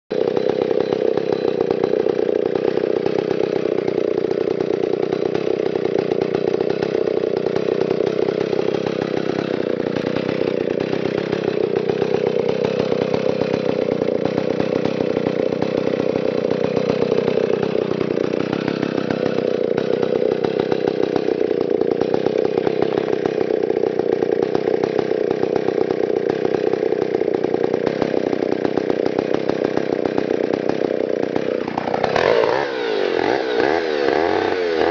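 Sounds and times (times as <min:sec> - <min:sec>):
chainsaw engine idling: 0:00.1 - 0:34.9.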